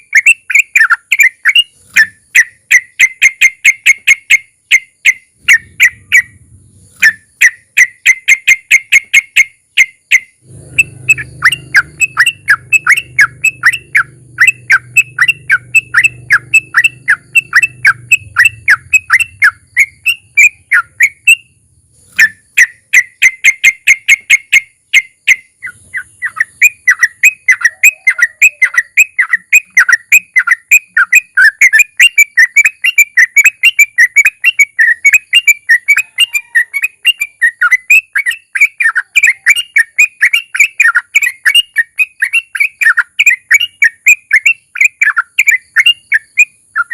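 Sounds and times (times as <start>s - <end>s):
bulbul singing whistled song: 0.0s - 46.9s.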